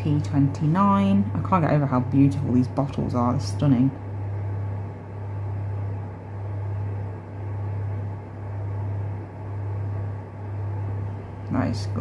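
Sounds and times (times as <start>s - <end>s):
pulsing machine hum: 0.0s - 12.0s.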